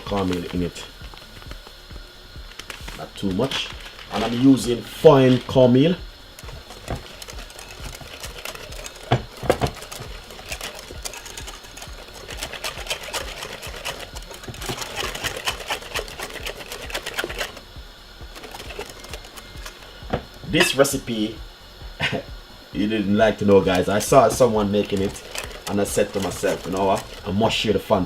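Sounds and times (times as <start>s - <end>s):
whisk beating in a bowl: 2.5s - 21.5s, 22.8s - 28.0s.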